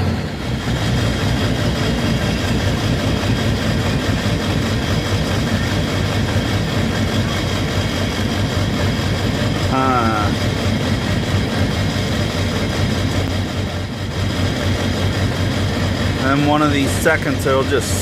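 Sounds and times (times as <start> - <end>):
diesel engine idling roughly: 0.0 - 18.0.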